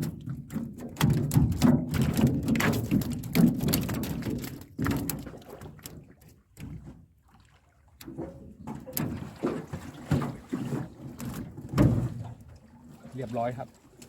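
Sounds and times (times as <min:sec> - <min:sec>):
knocks around a small boat: 0:00.0 - 0:07.2, 0:08.1 - 0:13.6
water splashing: 0:00.0 - 0:14.0.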